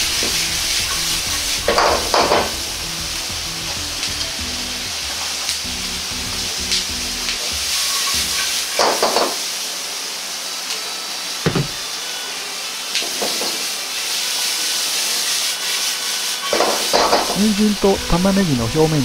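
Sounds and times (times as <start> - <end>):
vegetables sizzling in a wok: 0.0 - 19.0.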